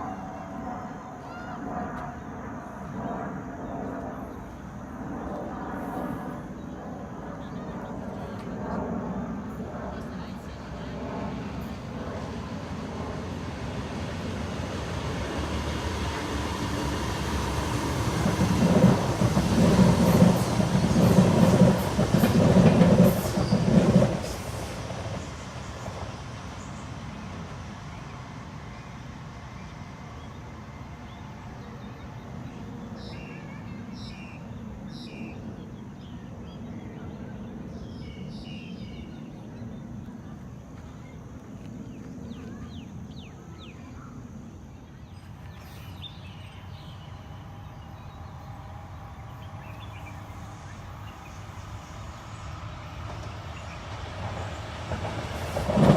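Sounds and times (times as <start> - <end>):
train passing: 0.0 - 55.9.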